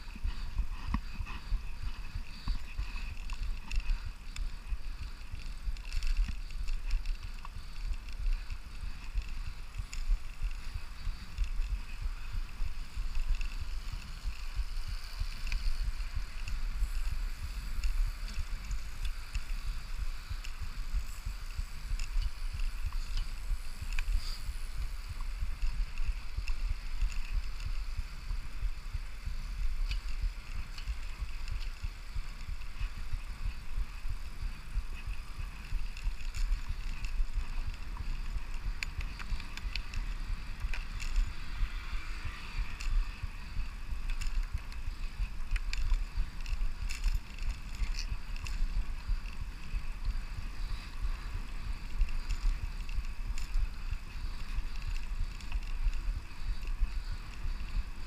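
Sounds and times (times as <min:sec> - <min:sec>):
tyre and road noise: 0:00.0 - 0:58.0
wind buffeting microphone: 0:00.0 - 0:58.0.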